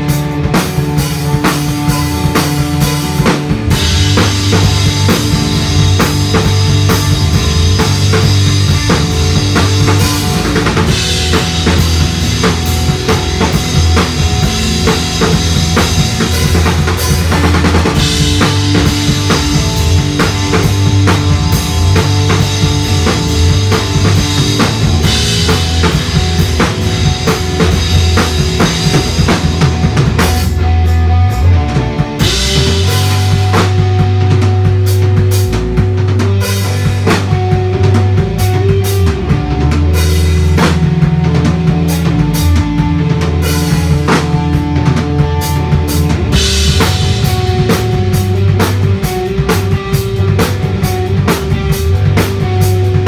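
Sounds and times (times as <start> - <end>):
electric guitar: 0.0 - 53.0
steady drum beat: 0.0 - 53.0.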